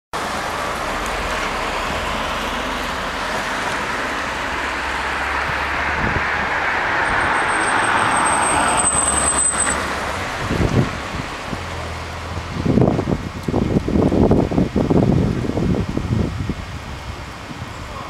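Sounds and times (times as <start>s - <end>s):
distant vehicles rushing: 0.2s - 18.0s.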